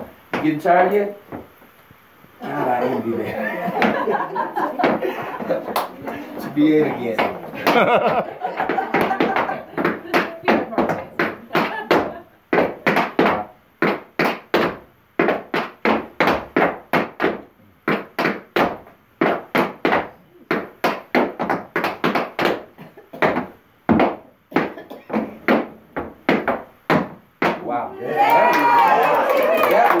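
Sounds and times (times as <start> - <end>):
tap shoes on wooden board: 0.3 - 1.8, 3.8 - 27.7.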